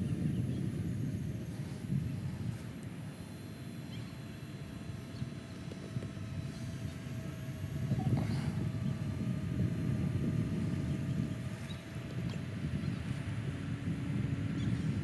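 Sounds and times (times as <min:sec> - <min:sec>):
drone propellers whining: 0:00.0 - 0:15.0
wind rumble on microphone: 0:00.0 - 0:15.0.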